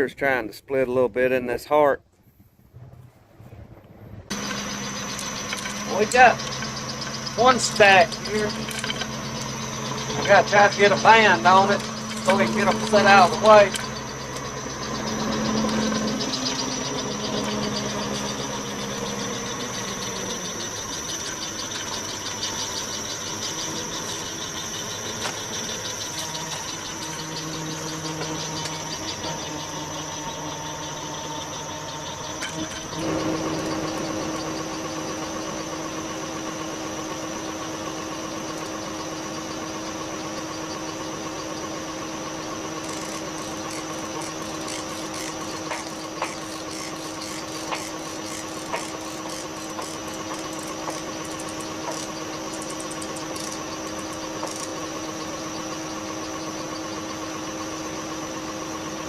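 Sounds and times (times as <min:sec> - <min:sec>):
engine idling: 0:04.3 - 0:59.0.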